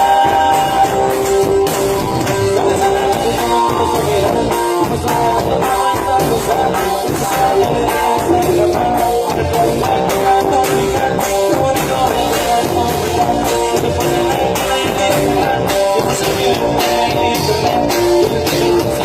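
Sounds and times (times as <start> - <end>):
drums: 0.0 - 19.0
guitar melody: 0.0 - 19.0.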